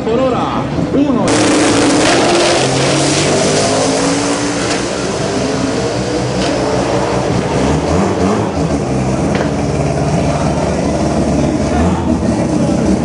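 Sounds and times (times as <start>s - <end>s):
drag car engine running: 0.8s - 13.0s.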